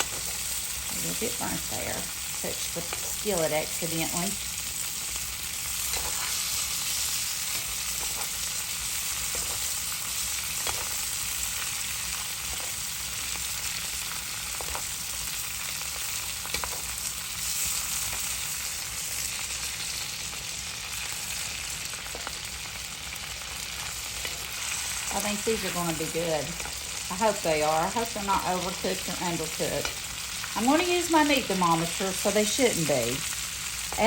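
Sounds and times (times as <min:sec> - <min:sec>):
steaks sizzling in a skillet: 0:00.0 - 0:34.0.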